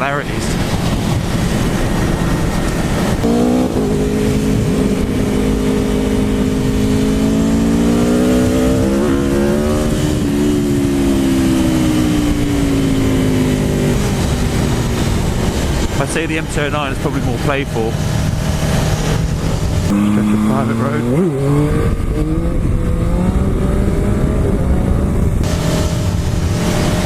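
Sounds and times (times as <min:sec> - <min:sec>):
motorcycle engine under way: 0:00.0 - 0:27.0
wind rushing: 0:00.0 - 0:27.0.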